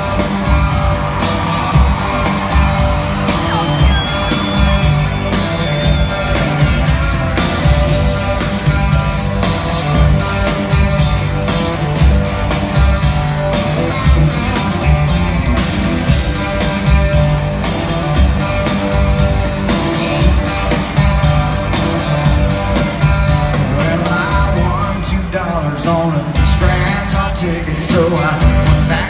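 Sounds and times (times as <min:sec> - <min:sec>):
live country-rock band: 0:00.0 - 0:29.0.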